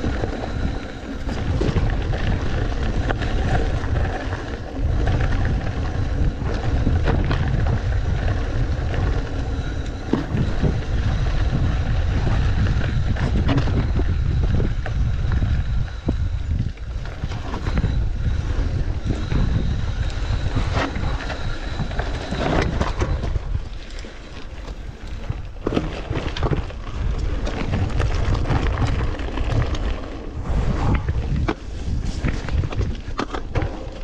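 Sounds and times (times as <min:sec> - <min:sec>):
bike frame rattling over rocks: 0:00.0 - 0:34.0
wind buffeting microphone: 0:00.0 - 0:34.0.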